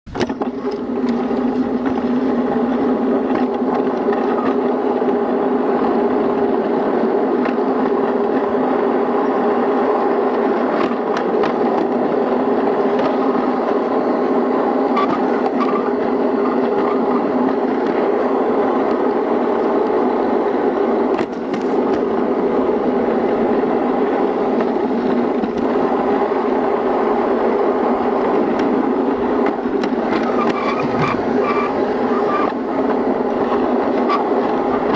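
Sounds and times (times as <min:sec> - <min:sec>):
wheels clicking on rails: 0:00.1 - 0:34.9.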